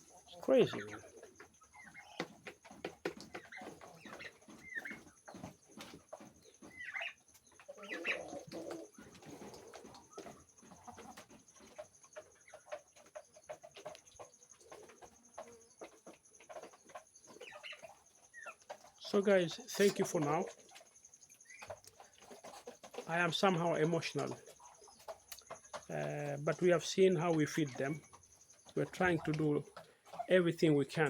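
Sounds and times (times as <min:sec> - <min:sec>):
young turkeys calling: 0:00.0 - 0:31.0.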